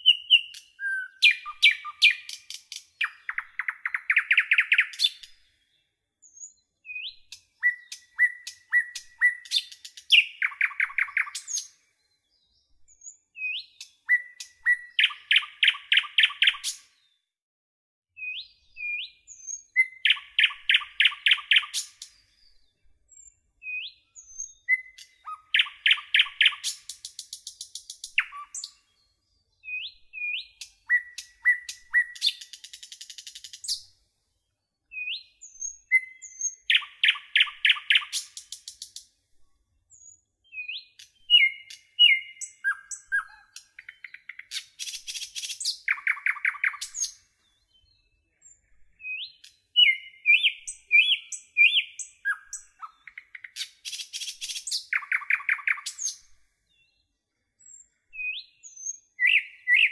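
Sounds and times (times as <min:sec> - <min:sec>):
nightingale singing: 0:00.0 - 0:17.1, 0:18.2 - 0:59.9.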